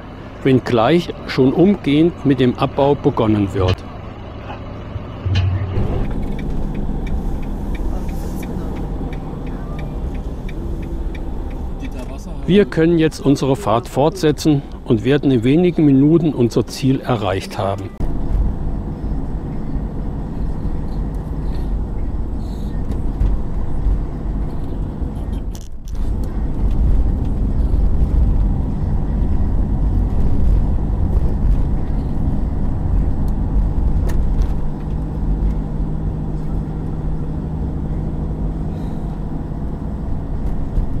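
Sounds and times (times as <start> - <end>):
engine and tyre rumble: 0.0 - 41.0.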